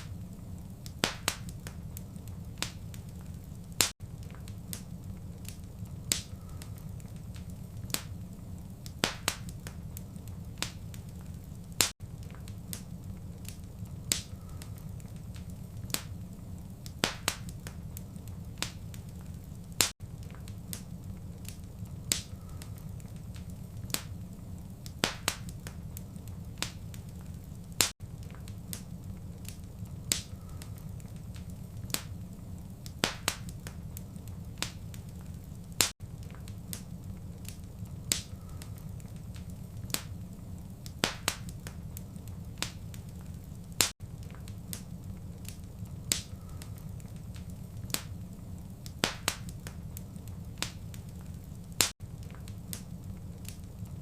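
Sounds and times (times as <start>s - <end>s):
low rumble of fire: 0.0s - 54.0s
sharp snaps and pops of fire: 0.0s - 54.0s
wood fire crackling: 0.0s - 54.0s.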